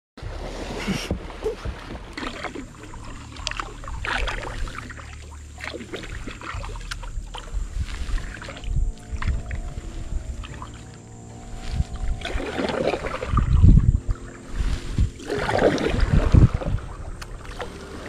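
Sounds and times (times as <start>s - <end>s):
paddle splashing in water: 0.2s - 18.0s.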